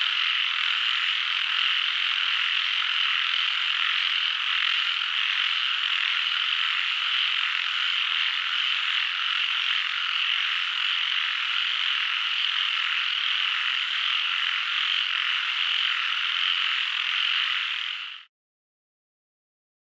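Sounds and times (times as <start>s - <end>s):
chorus of frogs calling: 0.0s - 18.3s.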